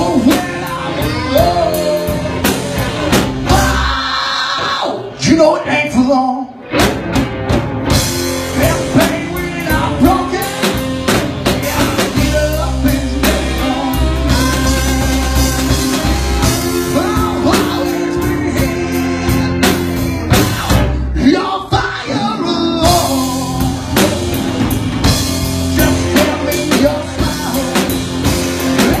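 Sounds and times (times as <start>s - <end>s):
drums hitting: 0.0s - 4.1s, 6.8s - 22.0s, 22.8s - 29.0s
electric guitar: 0.0s - 5.2s, 6.4s - 21.2s, 22.1s - 29.0s
blues-rock band playing: 0.0s - 29.0s.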